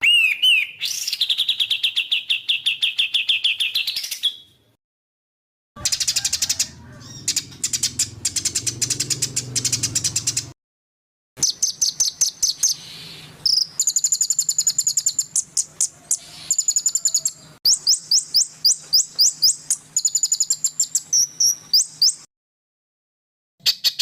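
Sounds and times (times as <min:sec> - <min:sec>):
songbird chirping: 0:00.0 - 0:04.8, 0:05.8 - 0:10.6, 0:11.4 - 0:22.3.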